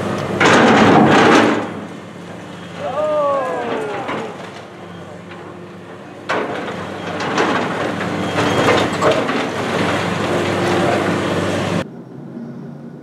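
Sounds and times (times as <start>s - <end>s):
excavator engine hum: 0.0s - 13.0s
falling masonry crashing: 0.3s - 11.8s.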